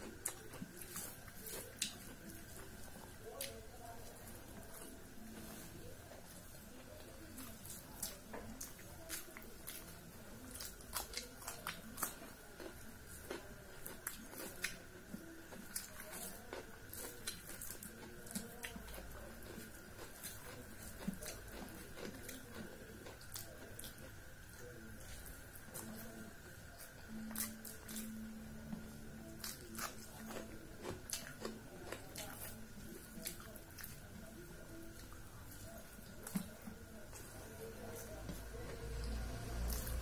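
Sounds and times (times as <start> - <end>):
person chewing with mouth smacks: 0.0 - 6.2, 7.3 - 28.2, 29.2 - 38.5.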